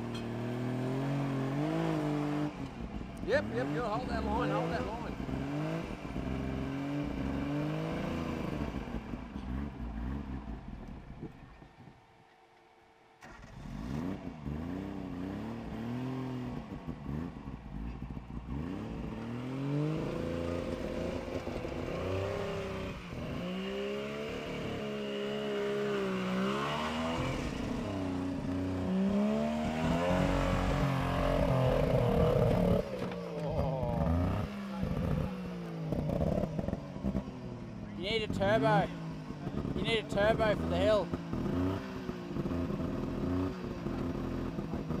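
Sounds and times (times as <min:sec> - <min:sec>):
off-road vehicle engine revving: 0:00.0 - 0:11.9, 0:13.2 - 0:45.0.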